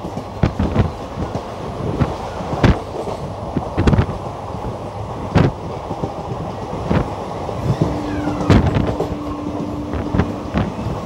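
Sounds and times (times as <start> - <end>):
train wheels rumbling on track: 0.0 - 11.0
wheels clacking over rail joints: 0.0 - 11.0.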